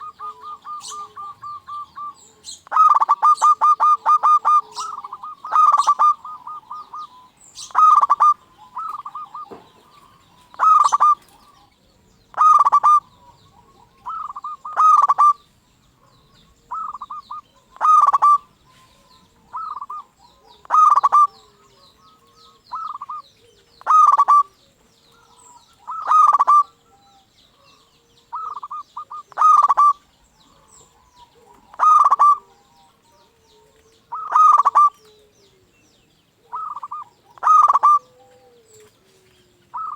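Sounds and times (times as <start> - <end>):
dove cooing: 0.0 - 39.9
small birds chirping faintly: 0.0 - 39.9.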